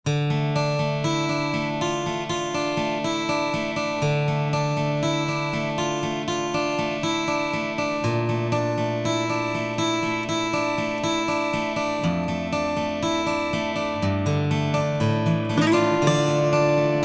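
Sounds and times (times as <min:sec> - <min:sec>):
acoustic guitar strumming: 0:00.1 - 0:17.0.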